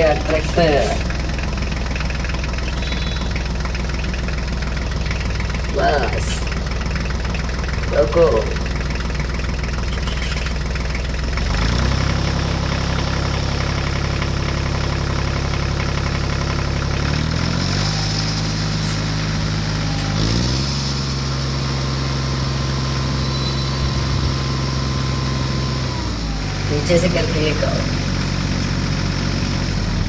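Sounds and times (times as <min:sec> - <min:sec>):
toy tractor electronic engine sound: 0:00.0 - 0:30.0.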